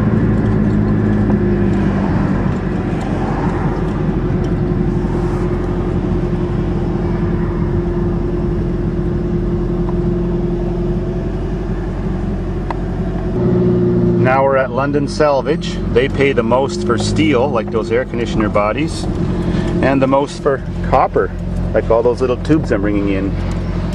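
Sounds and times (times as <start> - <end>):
car engine hum: 0.0 - 23.9
road rumble: 0.0 - 23.9.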